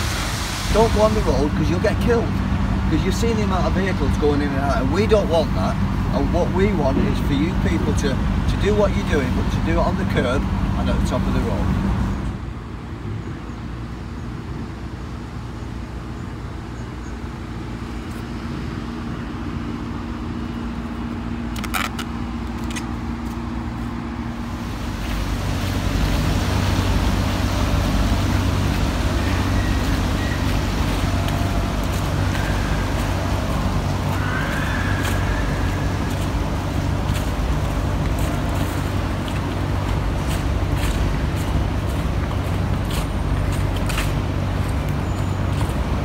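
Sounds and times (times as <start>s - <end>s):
vehicle engines and traffic rumble: 0.0s - 46.0s.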